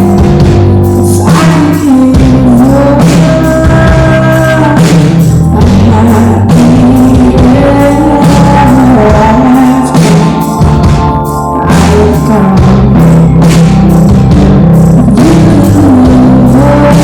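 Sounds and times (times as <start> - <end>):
lead melody line: 0.0 - 17.0
live rock band playing: 0.0 - 17.0.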